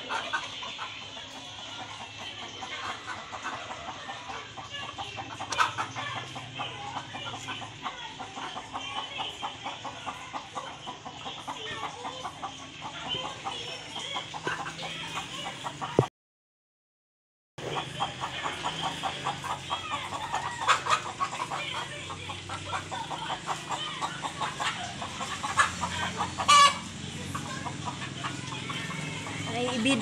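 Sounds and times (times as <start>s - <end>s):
chickens clucking: 0.0s - 16.1s, 17.6s - 30.0s.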